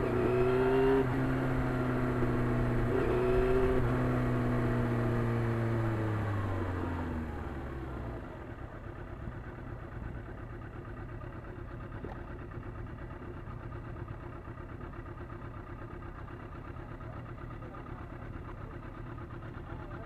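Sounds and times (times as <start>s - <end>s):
motorcycle engine idling: 3.6s - 20.0s.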